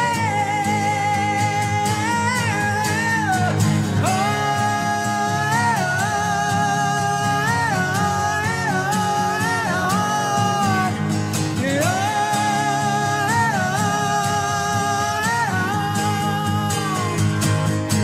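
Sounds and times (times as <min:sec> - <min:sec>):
acoustic guitars strumming: 0:00.0 - 0:18.0
men singing: 0:00.0 - 0:18.0.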